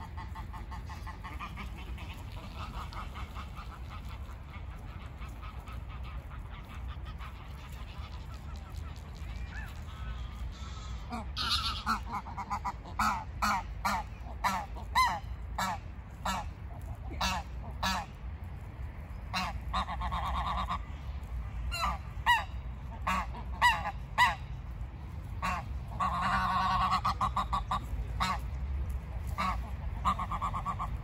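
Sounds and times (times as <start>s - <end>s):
geese honking: 0.0s - 18.2s, 19.3s - 21.1s, 21.7s - 24.7s, 25.3s - 28.6s, 29.2s - 31.0s
low steady rumble: 0.0s - 31.0s.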